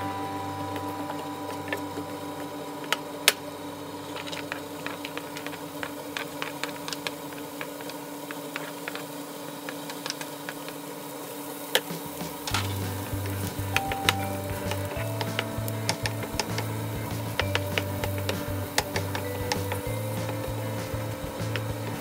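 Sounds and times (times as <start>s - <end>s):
faint hum: 0.0s - 22.0s
garlic and onion frying in oil: 3.5s - 22.0s.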